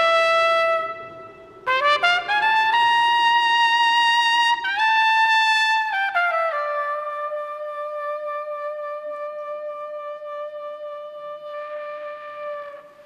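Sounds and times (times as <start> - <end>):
solo trumpet: 0.0 - 13.0.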